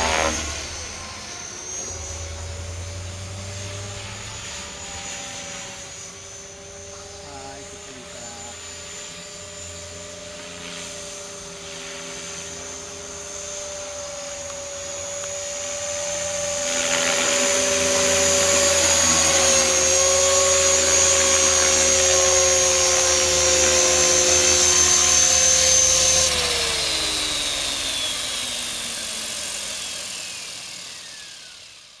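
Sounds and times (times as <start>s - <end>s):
rc helicopter motor whine: 0.0s - 32.0s.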